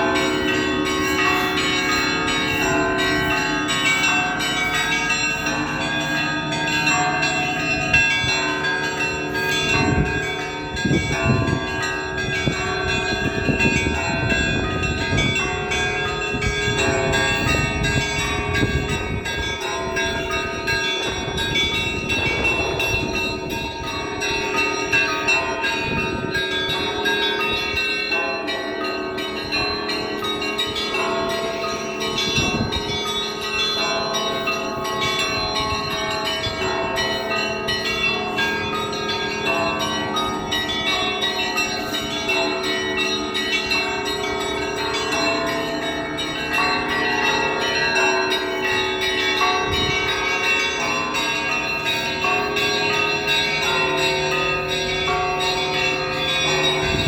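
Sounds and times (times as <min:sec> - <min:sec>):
deep bell hum: 0:00.0 - 0:57.0
high chiming church bells: 0:00.0 - 0:57.0.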